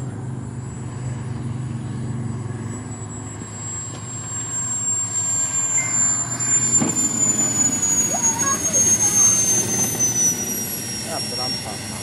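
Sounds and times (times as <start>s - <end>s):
model jet engine whine: 0.0s - 12.0s.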